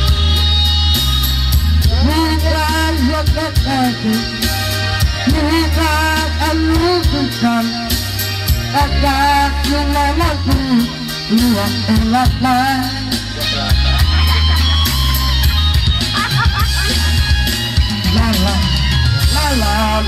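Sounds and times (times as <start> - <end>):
man singing with vibrato: 0.0 - 14.0, 17.9 - 20.0
amplified backing music: 0.0 - 20.0.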